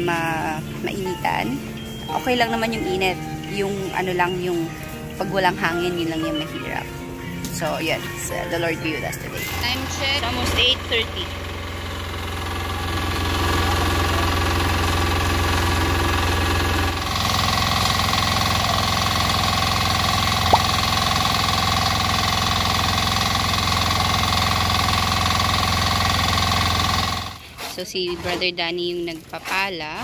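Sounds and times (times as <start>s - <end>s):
concrete mixer engine running: 0.0s - 30.0s.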